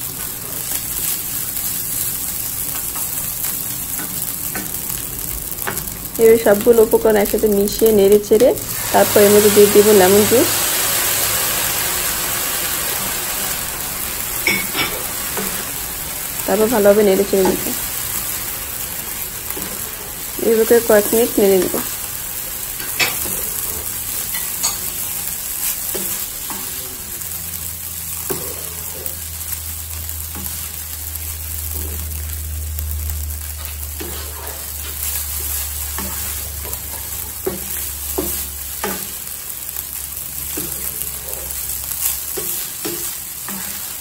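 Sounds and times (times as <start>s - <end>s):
rice sizzling in pan: 0.0s - 44.0s.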